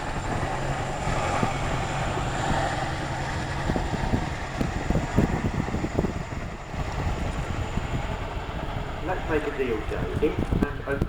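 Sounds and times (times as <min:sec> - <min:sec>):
distant aircraft rumble: 0:00.0 - 0:11.0
wind buffeting microphone: 0:00.0 - 0:11.0.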